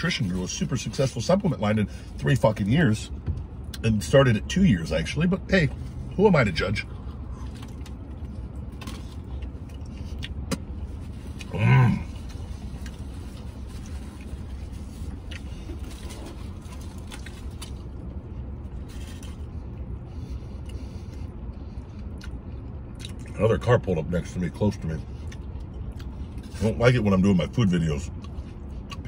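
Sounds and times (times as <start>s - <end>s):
vehicle rumble: 0.0s - 29.0s.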